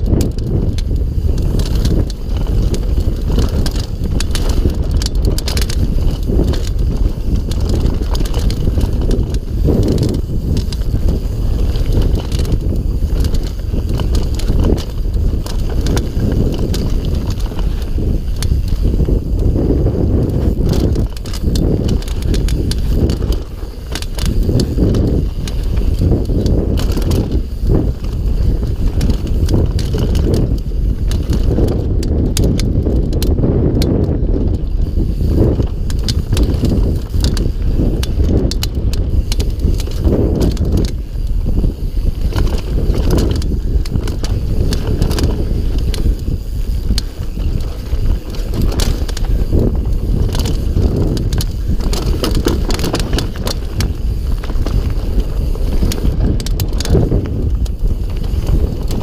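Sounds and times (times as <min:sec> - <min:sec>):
bike knocks and rattles: 0:00.0 - 0:59.0
tyres rolling over dirt: 0:00.0 - 0:59.0.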